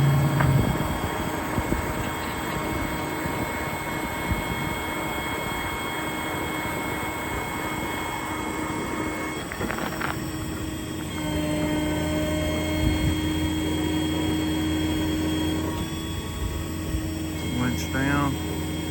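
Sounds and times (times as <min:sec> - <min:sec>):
diesel truck engine running: 0:00.0 - 0:18.9
equipment whine: 0:00.0 - 0:18.9.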